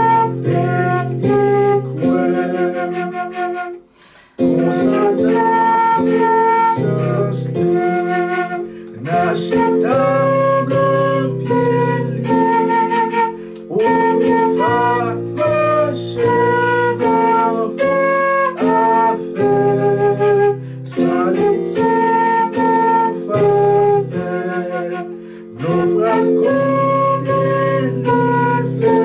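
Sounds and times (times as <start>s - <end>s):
low accompaniment: 0.0s - 3.8s, 4.4s - 29.0s
flute playing melody: 0.0s - 29.0s.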